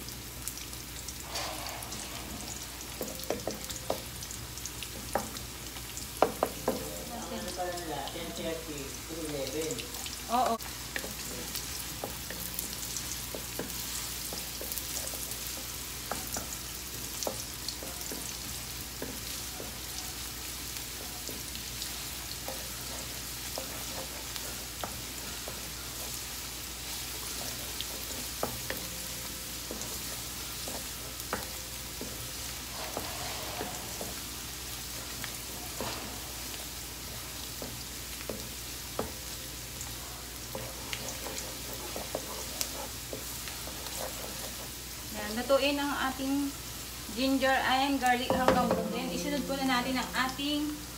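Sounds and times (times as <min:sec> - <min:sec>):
ginger and garlic sizzling in oil: 0:00.0 - 0:50.9
wooden spatula scraping wok: 0:01.2 - 0:07.4, 0:08.0 - 0:50.9.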